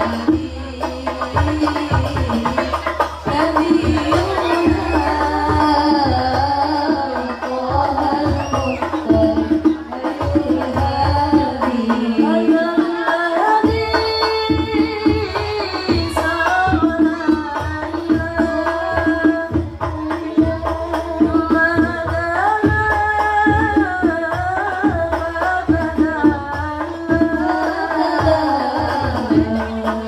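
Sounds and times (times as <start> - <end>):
group of women singing: 0.0 - 30.0
hand drums beating: 0.0 - 30.0.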